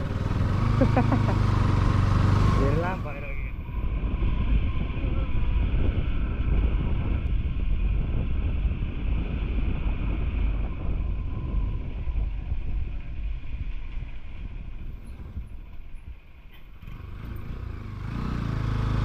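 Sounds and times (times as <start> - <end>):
wind buffeting microphone: 0.0 - 18.9
motorcycle engine running: 0.0 - 19.0.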